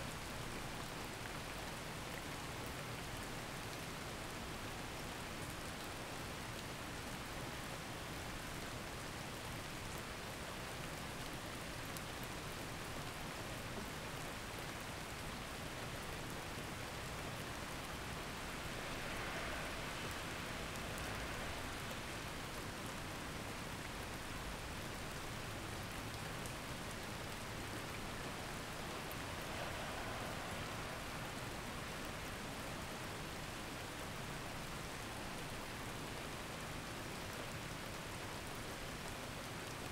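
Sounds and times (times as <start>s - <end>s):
rain-like noise: 0.0s - 39.9s.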